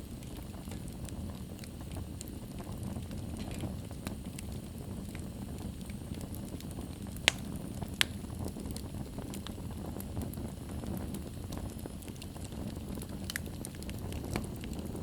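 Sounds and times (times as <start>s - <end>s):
loud fire pops: 0.0s - 15.0s
wood fire crackling: 0.0s - 15.0s.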